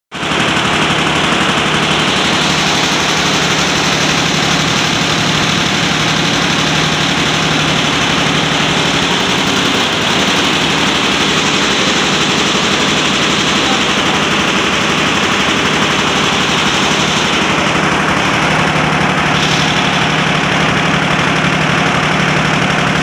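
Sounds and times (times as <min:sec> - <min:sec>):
embroidery machine clattering: 0:00.2 - 0:23.0.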